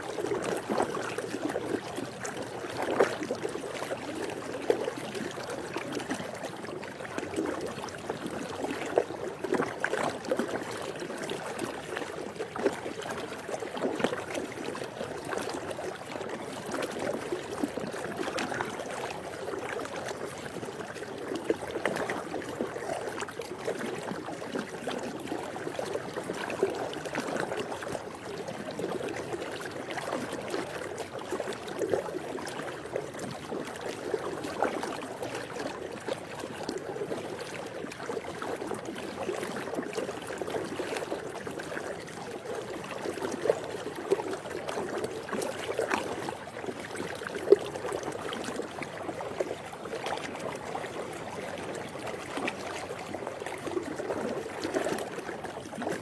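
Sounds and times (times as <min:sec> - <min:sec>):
pool water lapping and splashing: 0:00.0 - 0:56.0.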